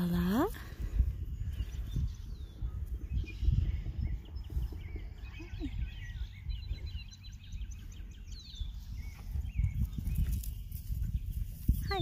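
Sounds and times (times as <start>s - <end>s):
songbirds chirping: 0.0s - 12.0s
wind buffeting microphone: 0.0s - 12.0s.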